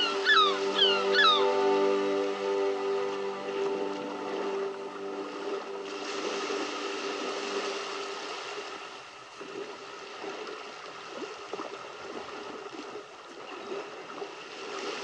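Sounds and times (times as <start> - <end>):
wash of water: 1.7 - 15.0.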